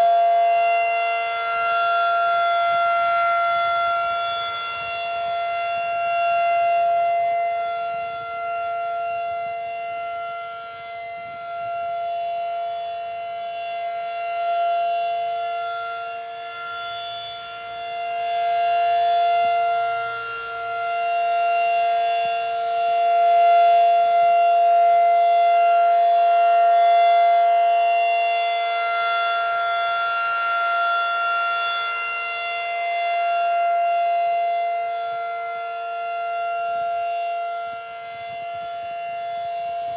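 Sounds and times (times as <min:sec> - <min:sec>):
rotating warning siren wail: 0:00.0 - 0:39.9.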